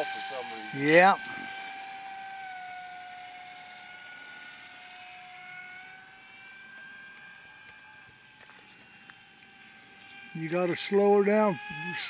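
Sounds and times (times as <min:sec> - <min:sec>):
model aircraft motor whining: 0:00.0 - 0:12.0.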